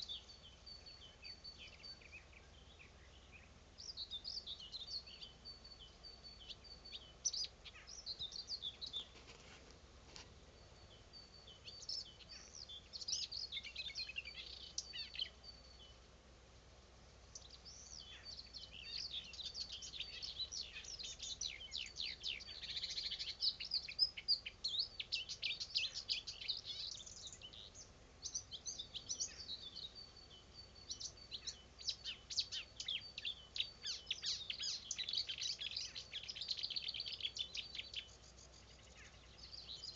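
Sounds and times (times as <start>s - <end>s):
nightingale singing: 0.0s - 9.2s, 10.5s - 16.0s, 17.2s - 39.9s.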